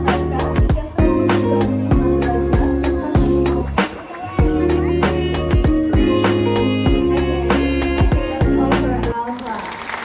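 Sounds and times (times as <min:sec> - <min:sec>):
background music with beat: 0:00.0 - 0:09.2.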